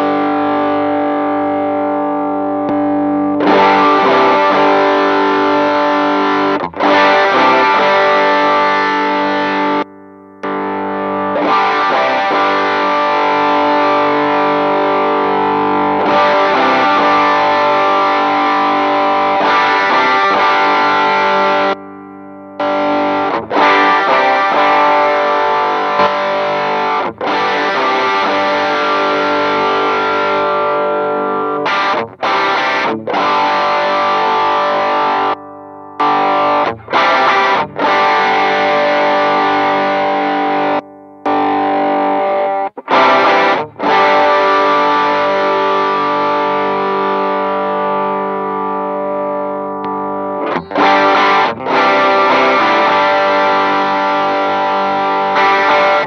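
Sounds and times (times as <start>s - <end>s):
distorted electric guitar chords: 0.0s - 56.0s.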